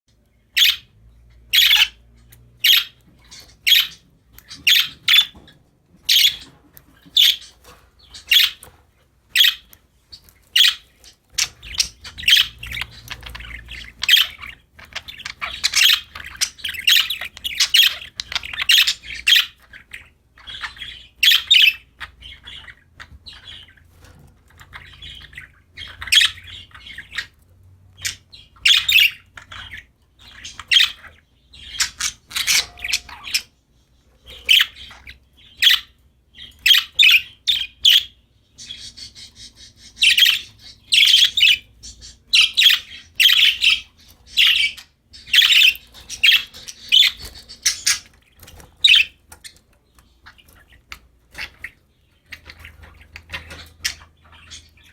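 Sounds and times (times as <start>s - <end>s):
budgerigars chirping and squawking: 0.1s - 54.9s.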